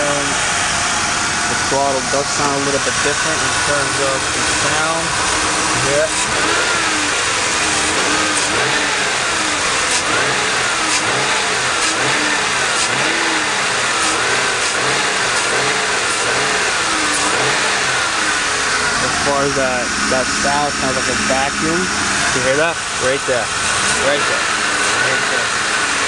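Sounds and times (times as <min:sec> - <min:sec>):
car engine running with wavering note: 0:00.0 - 0:26.0.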